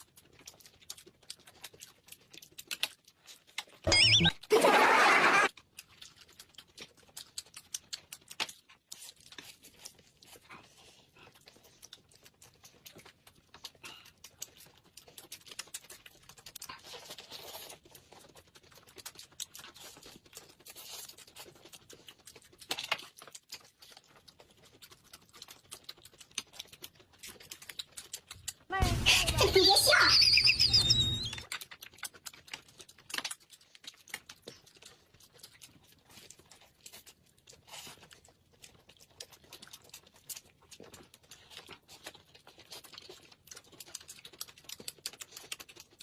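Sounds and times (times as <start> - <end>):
chewing with small clicks: 0.0 - 4.1, 5.5 - 28.8, 30.4 - 46.0.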